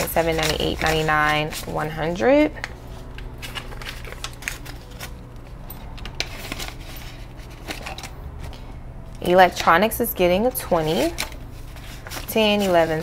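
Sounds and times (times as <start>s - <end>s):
banknotes crinkling: 0.0s - 13.0s
low steady hum: 0.0s - 13.0s.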